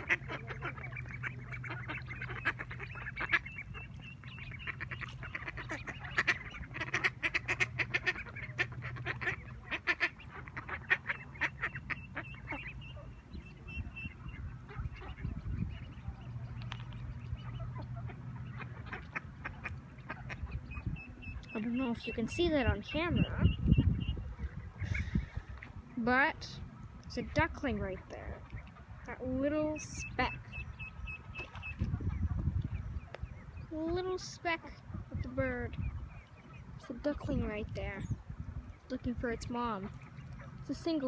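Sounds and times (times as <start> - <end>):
ducks quacking: 0.0 - 41.0.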